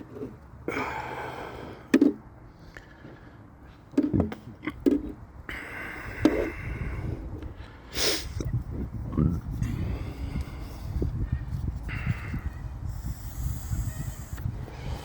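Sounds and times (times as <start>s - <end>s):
low rumbling background: 0.0s - 15.0s.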